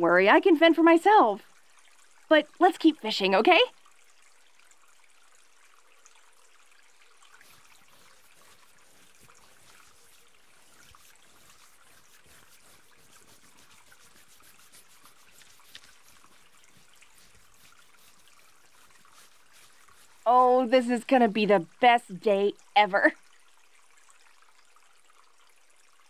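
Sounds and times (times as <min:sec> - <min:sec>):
trickling stream: 0:00.0 - 0:26.0.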